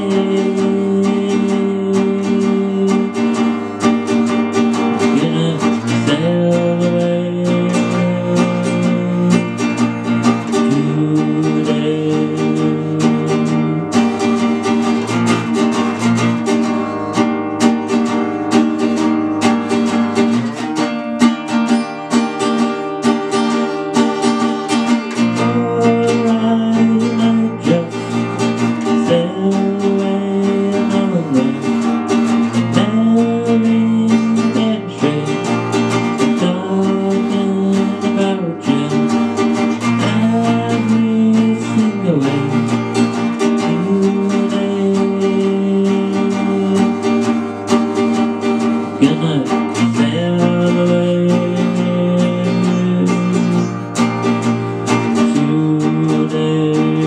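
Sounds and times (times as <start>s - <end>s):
acoustic guitar: 0.0s - 57.0s.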